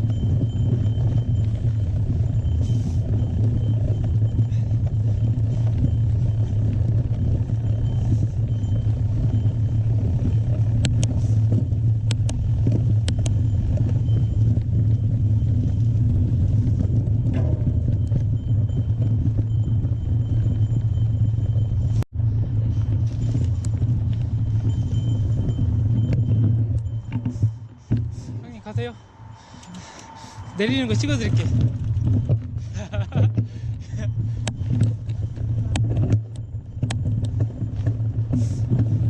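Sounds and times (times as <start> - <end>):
rough trail noise: 0.0 - 39.0
wind rumble: 0.0 - 39.0.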